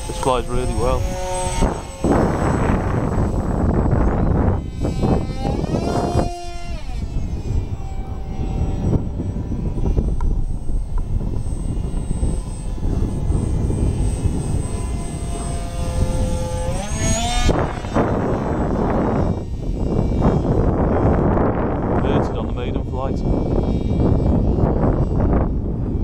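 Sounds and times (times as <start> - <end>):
electric motor and propeller whine: 0.0 - 26.0
wind noise on microphone: 0.0 - 26.0.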